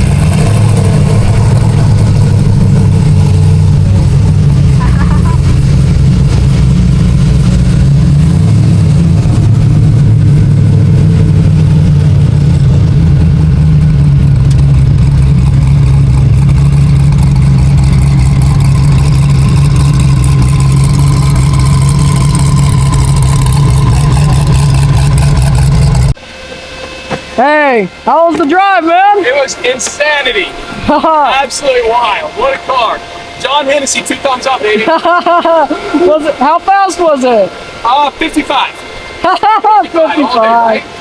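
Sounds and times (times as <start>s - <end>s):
car engine idling loudly: 0.0s - 41.0s.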